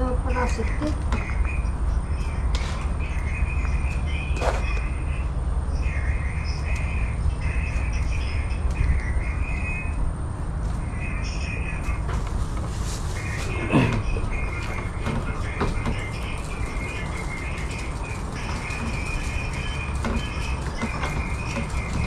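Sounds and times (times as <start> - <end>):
birds calling: 0.0 - 22.0
steady low rumble: 0.0 - 22.0.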